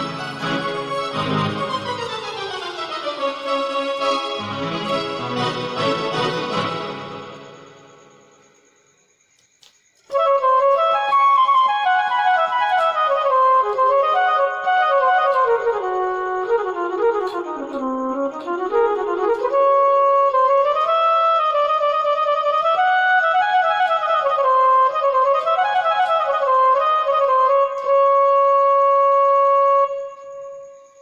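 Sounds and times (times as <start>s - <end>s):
keyboard flute-like melody: 0.0s - 8.5s, 10.0s - 31.0s.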